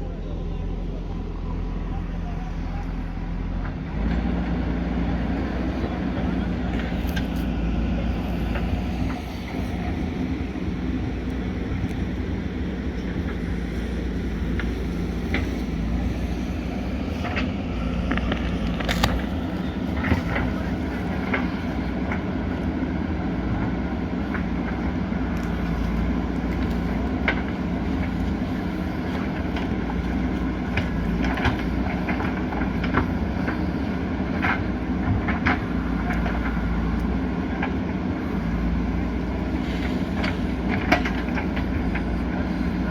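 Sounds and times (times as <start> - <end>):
diesel engine running under load: 0.0 - 42.9.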